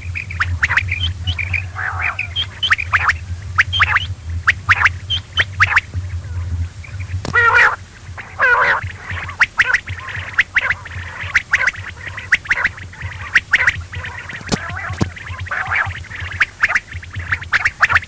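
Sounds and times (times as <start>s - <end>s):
quail calling: 0.0s - 18.0s
steady low hum: 0.0s - 18.0s.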